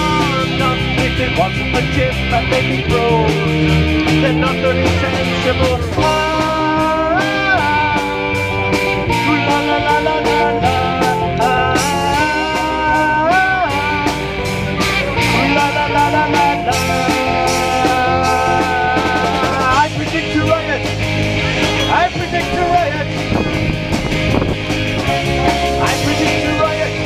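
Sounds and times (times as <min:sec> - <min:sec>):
lead guitar bending notes: 0:00.0 - 0:27.0
steady drum beat: 0:00.0 - 0:27.0.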